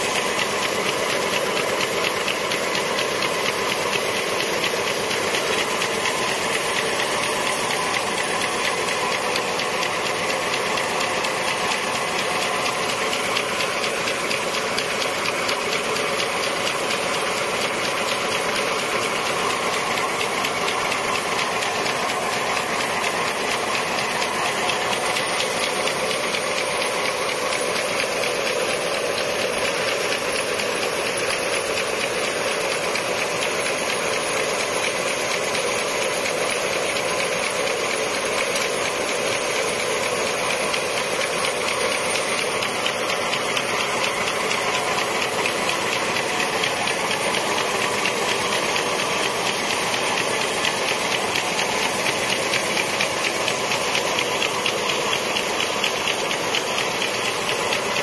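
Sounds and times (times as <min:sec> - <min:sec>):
fast mechanical clatter: 0:00.0 - 0:58.0
machine hiss: 0:00.0 - 0:58.0.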